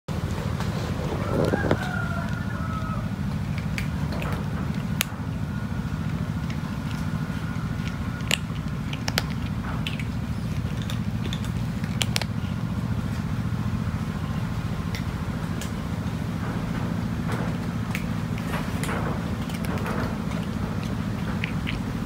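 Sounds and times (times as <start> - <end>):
steady low hum: 0.1 - 22.0
cat crunching dry kibble: 0.5 - 22.0.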